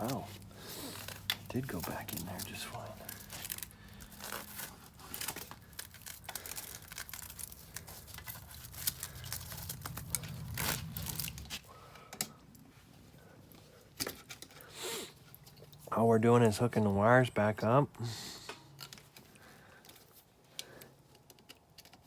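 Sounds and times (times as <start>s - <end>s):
hands rustling and clicking wiring: 0.0s - 15.9s, 18.4s - 22.0s.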